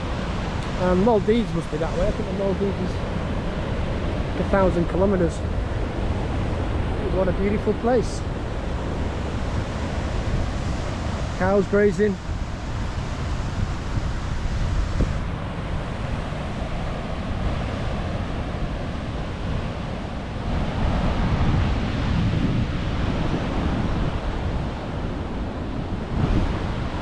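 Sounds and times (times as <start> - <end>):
ocean surf: 0.0 - 27.0
wind buffeting microphone: 0.0 - 27.0.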